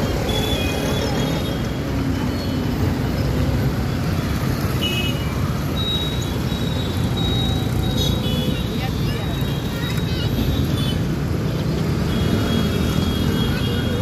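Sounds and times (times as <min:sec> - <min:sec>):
motorcycles and scooters passing: 0:00.0 - 0:14.0.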